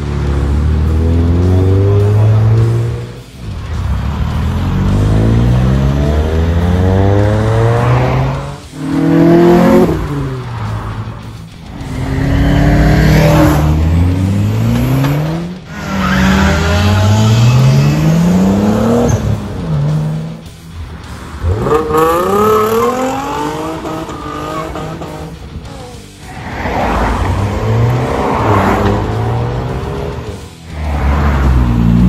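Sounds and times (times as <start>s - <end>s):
performance car engines accelerating: 0.0s - 32.0s.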